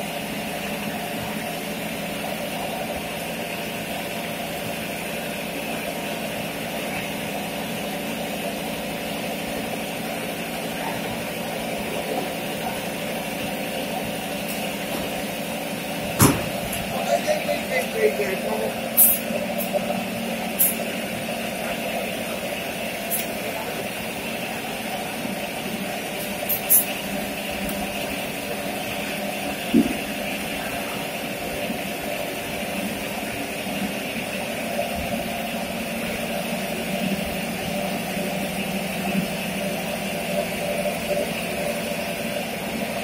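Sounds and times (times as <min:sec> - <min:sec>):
filling machine humming: 0:00.0 - 0:43.0.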